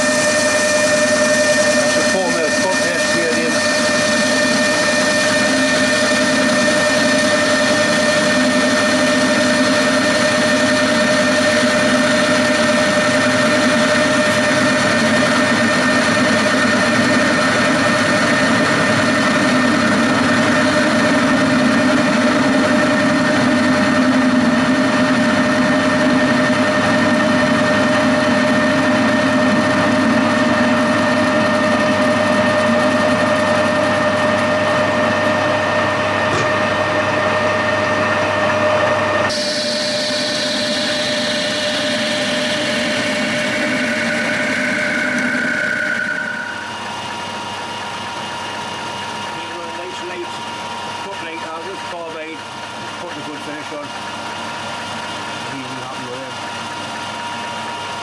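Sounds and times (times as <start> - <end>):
metal lathe cutting steel: 0.0 - 58.0.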